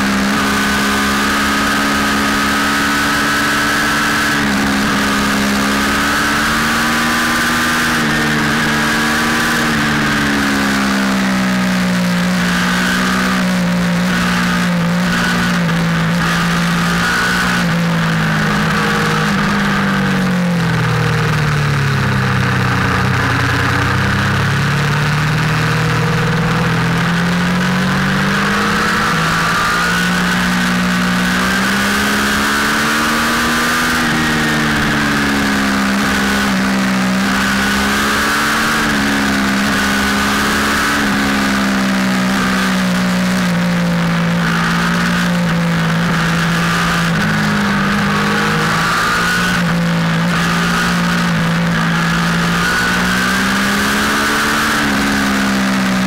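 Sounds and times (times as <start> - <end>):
motorcycle engine revving: 0.0 - 56.0
steady rushing noise: 0.0 - 56.0.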